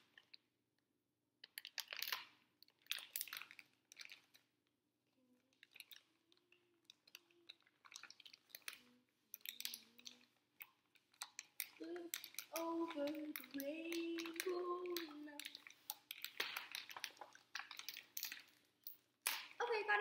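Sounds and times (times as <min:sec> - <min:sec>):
candy packet crinkling: 0:01.4 - 0:04.6, 0:05.4 - 0:20.0.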